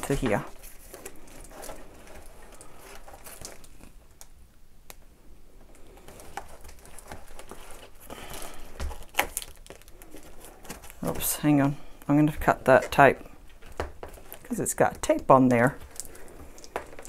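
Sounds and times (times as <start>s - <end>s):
packaging crinkling and rustling: 0.0s - 5.0s, 5.6s - 17.0s.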